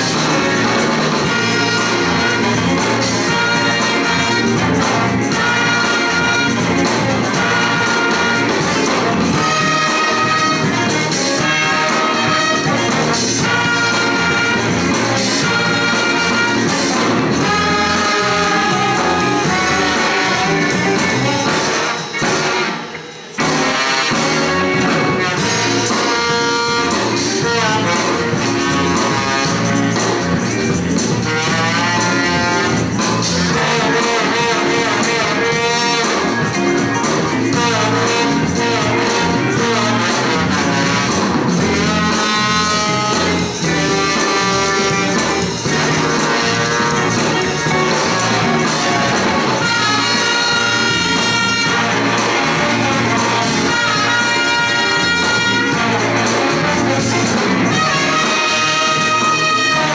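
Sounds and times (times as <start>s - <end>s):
big band playing jazz: 0.0s - 59.9s
brass playing held chords: 0.0s - 59.9s.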